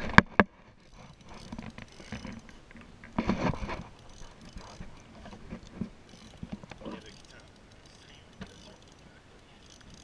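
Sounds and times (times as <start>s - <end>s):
fishing reel ticking: 0.8s - 2.8s, 3.6s - 10.0s.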